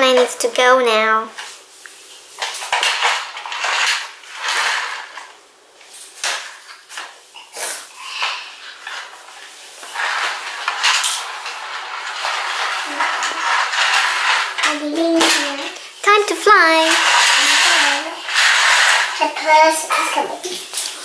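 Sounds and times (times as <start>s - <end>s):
plastic toys scraping on tile floor: 0.0s - 21.0s.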